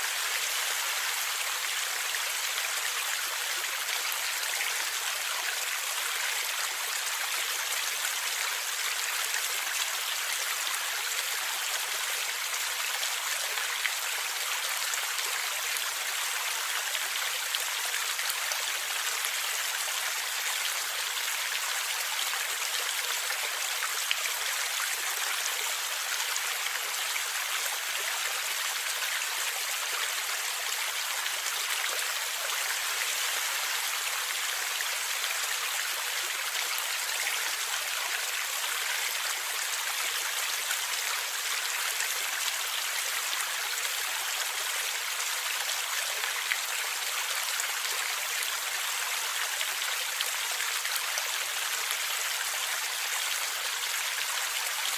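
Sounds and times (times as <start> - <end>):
stream water flowing and gurgling: 0.0 - 54.9.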